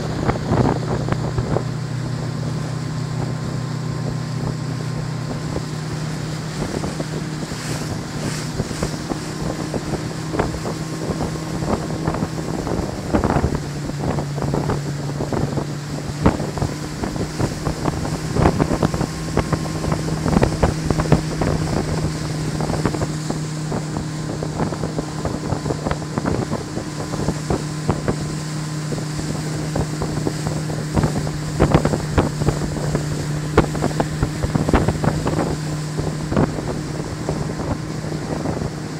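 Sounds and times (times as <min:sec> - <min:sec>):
boat engine running: 0:00.0 - 0:38.9
water rushing: 0:00.0 - 0:38.9
wind on microphone: 0:00.0 - 0:38.9.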